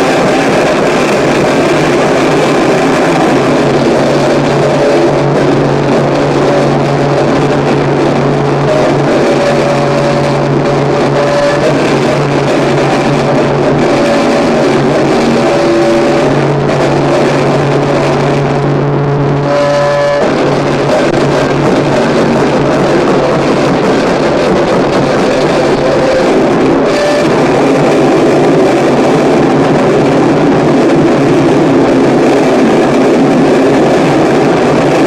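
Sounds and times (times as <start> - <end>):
distorted electronic noise: 0.0 - 35.0
fast noise stutter: 0.0 - 35.0
low drone: 0.0 - 35.0.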